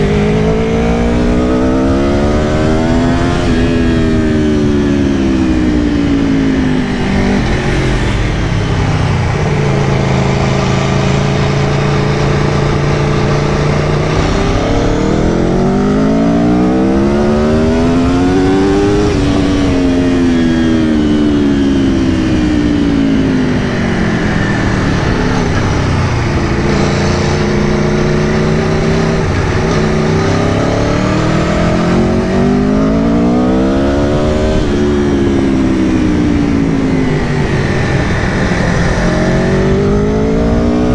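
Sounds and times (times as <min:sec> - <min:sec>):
motorcycle engine accelerating: 0:00.0 - 0:40.9
wind and road noise: 0:00.0 - 0:40.9.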